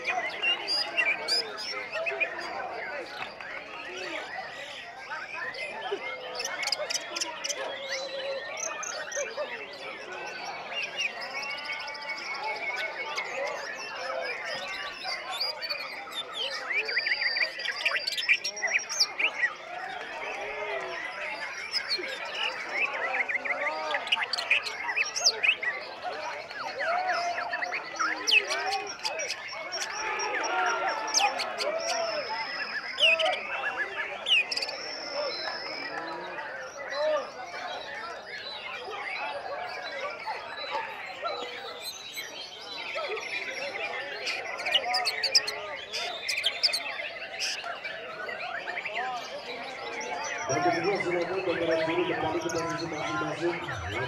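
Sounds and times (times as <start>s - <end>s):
many birds singing: 0.0s - 54.0s.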